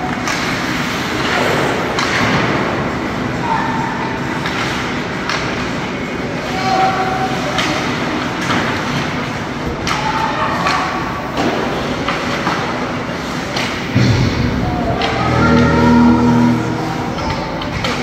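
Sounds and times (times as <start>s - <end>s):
arena noise: 0.0s - 18.0s.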